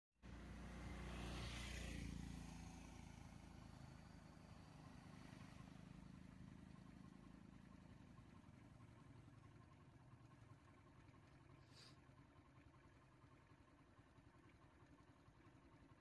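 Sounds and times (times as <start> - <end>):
vehicle engine humming: 0.2 - 16.0.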